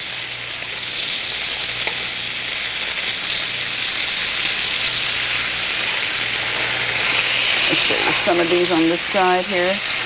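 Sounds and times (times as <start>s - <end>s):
sausages sizzling in a skillet: 0.0s - 10.0s.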